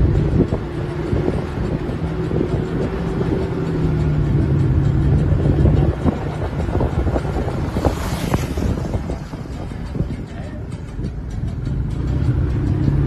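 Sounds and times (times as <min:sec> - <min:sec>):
engine hum: 0:00.0 - 0:13.0
tyres rumbling on dirt road: 0:00.0 - 0:13.0.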